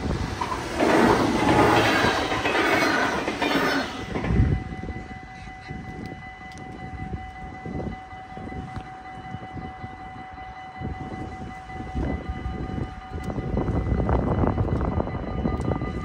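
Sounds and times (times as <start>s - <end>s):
level crossing warning bells: 0.0s - 16.0s.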